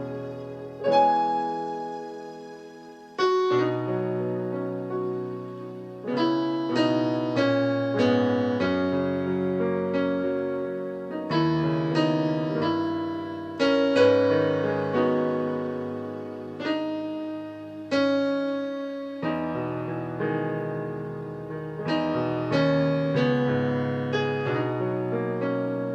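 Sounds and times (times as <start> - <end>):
slow piano chords: 0.0 - 25.9.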